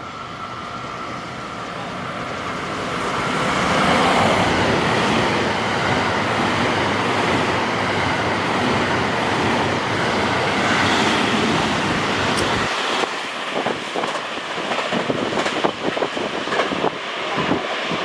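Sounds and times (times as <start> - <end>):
electric train rushing past: 0.0 - 18.0.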